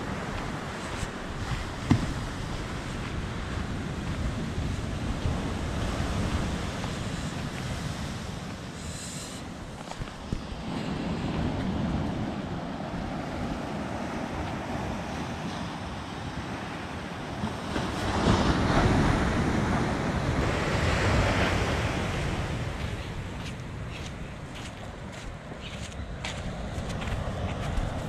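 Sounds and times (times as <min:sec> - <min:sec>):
ocean surf breaking on beach: 0:00.0 - 0:28.0
wind buffeting the microphone: 0:00.0 - 0:28.0.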